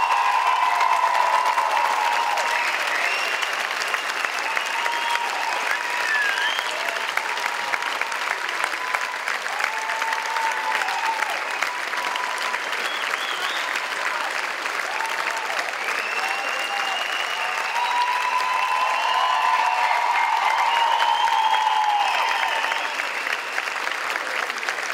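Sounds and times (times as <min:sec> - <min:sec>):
audience applauding: 0:00.0 - 0:24.9.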